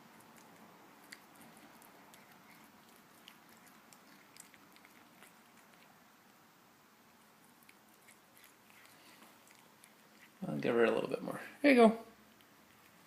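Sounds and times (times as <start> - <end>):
cat chewing lettuce: 0.0 - 11.2, 12.2 - 13.0.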